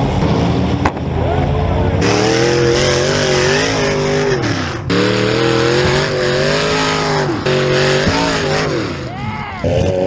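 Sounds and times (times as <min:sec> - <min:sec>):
car engine revving hard: 0:01.9 - 0:10.0.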